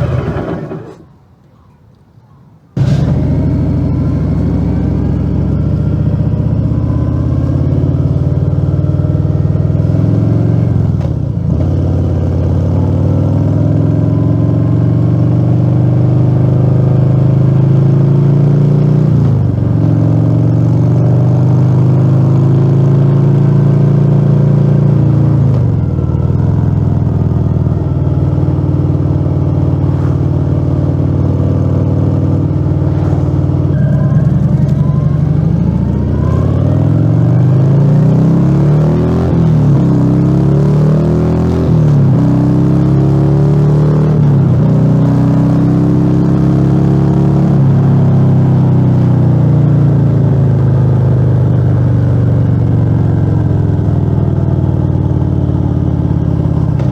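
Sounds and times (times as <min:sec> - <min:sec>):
motorcycle engine accelerating: 0:00.0 - 0:01.1, 0:02.8 - 0:56.9.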